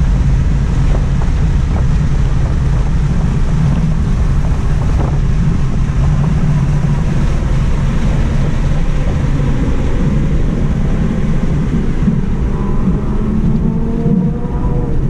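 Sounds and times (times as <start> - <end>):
car cabin wind and road noise: 0.0 - 15.0.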